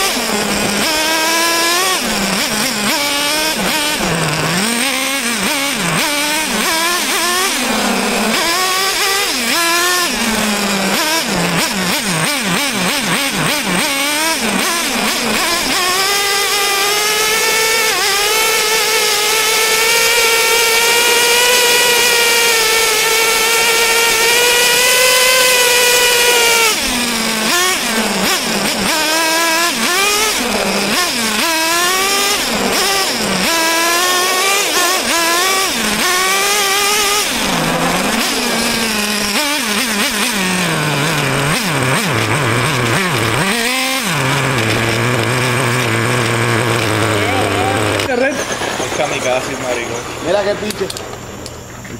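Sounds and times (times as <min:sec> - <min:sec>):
radio-controlled car motor revving: 0:00.0 - 0:51.9.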